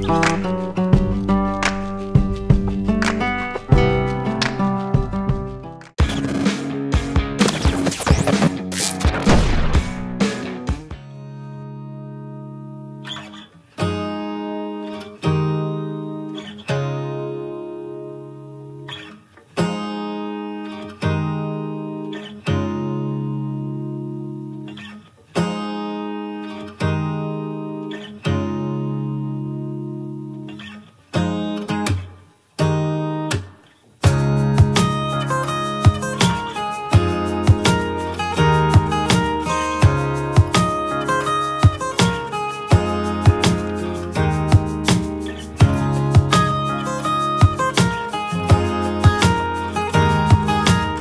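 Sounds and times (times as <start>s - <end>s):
acoustic guitar strummed chords: 0.0s - 51.0s.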